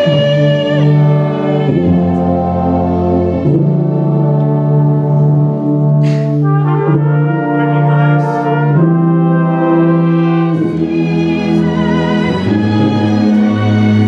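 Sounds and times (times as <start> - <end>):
orchestra playing slow chords: 0.0 - 14.0.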